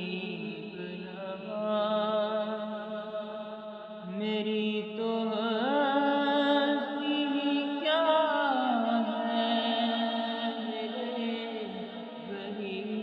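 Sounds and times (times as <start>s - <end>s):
person singing unaccompanied: 0.0s - 3.2s, 4.0s - 13.0s.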